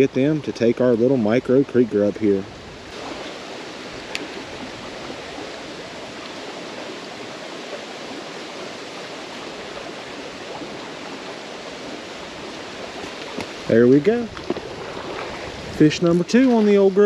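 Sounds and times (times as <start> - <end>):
creek water running over stones: 0.0 - 17.0.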